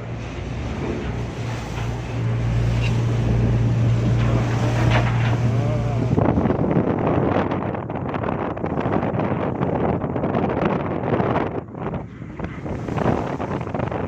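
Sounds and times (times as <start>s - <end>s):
boat engine droning: 0.0s - 14.0s
sea rushing: 0.0s - 14.0s
wind buffeting microphone: 0.0s - 14.0s.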